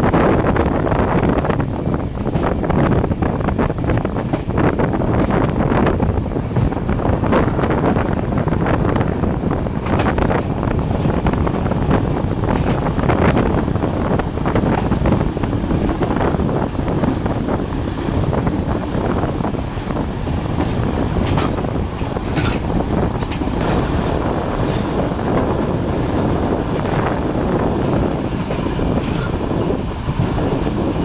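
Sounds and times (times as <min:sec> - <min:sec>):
train wheels rumbling on rails: 0:00.0 - 0:31.0
wind noise on microphone: 0:00.0 - 0:31.0.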